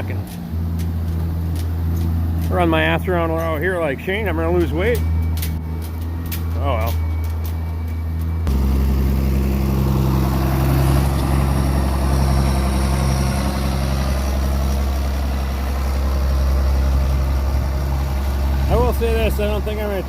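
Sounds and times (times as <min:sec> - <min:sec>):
heavy vehicle engine running: 0:00.0 - 0:20.0.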